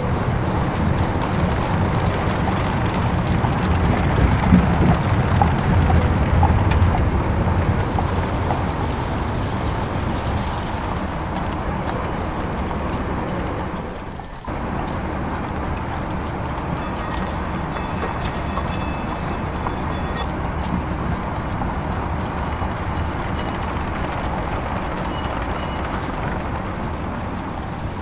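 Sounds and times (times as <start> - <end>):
rolling wheels and traffic rumble: 0.0 - 28.0.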